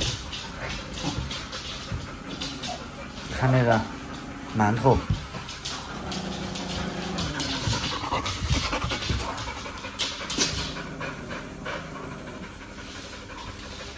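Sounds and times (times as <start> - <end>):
dog panting: 0.0 - 13.9.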